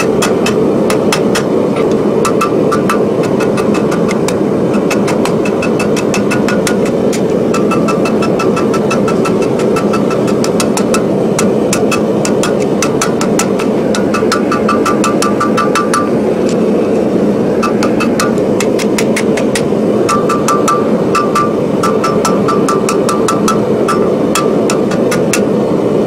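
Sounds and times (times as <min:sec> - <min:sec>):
hammer striking steel on anvil: 0:00.0 - 0:16.2, 0:17.6 - 0:25.5
steady low rumble: 0:00.0 - 0:26.0.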